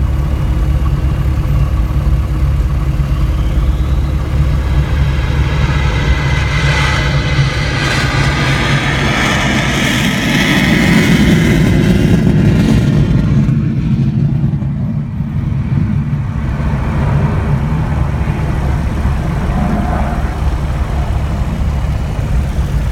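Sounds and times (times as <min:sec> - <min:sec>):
aircraft engine droning: 0:00.0 - 0:22.9
high rushing sound: 0:03.0 - 0:22.9.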